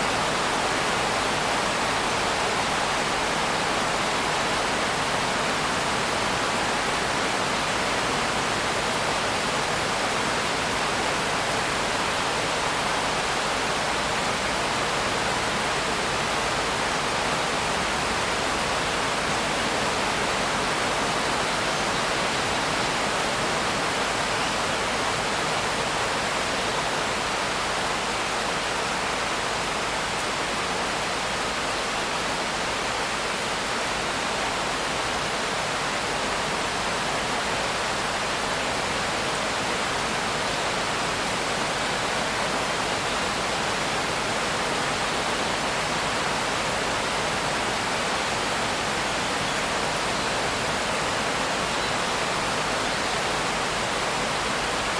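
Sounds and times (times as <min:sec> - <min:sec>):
rain falling steadily: 0:00.0 - 0:54.9.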